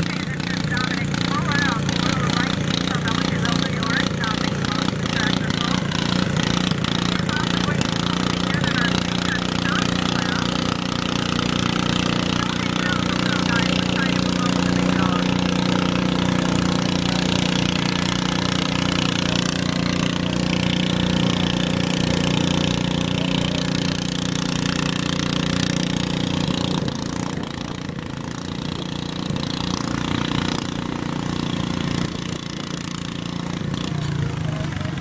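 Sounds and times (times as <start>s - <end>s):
small tractor engine under load: 0.0s - 35.0s.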